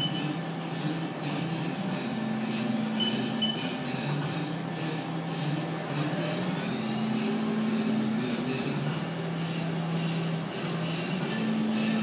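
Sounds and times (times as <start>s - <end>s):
lathe motor whine: 0.0s - 12.0s
low machine hum: 0.0s - 12.0s.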